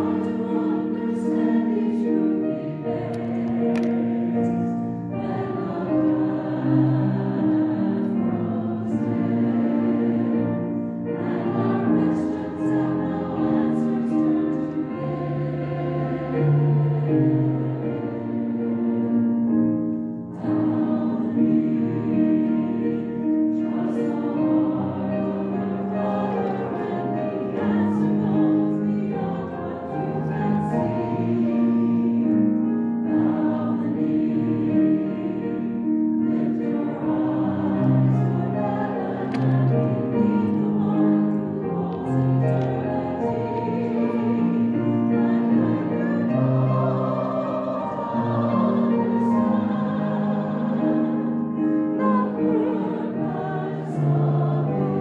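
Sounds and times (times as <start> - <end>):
choir singing held chords: 0.0 - 55.0.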